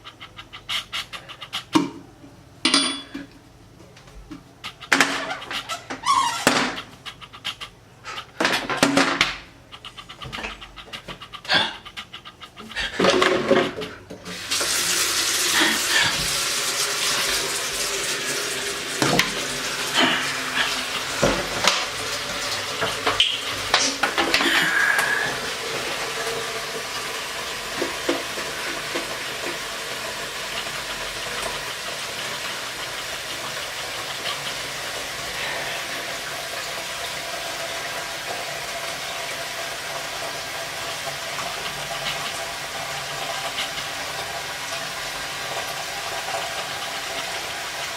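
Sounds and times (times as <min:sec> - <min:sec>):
water running: 0:04.2 - 0:47.9.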